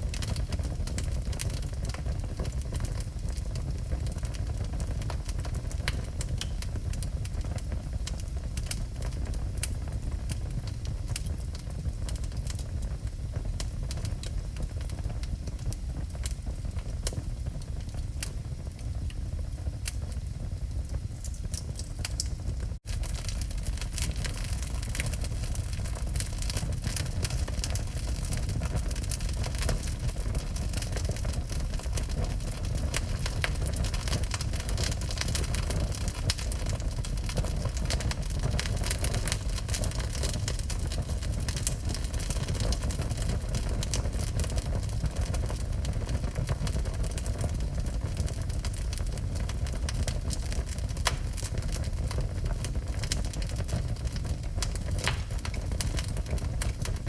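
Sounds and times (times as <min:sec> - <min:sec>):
fire crackling and popping: 0:00.0 - 0:57.0
fire flames rumbling: 0:00.0 - 0:57.0.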